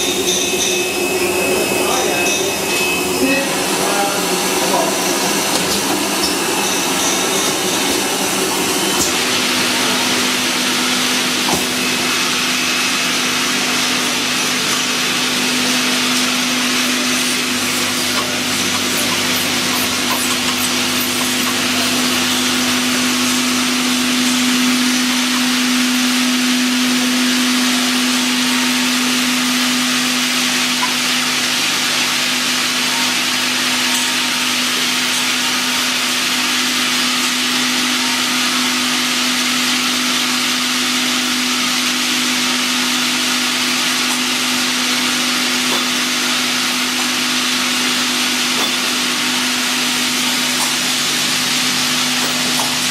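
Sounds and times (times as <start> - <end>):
bottling machinery hiss: 0.0 - 52.9.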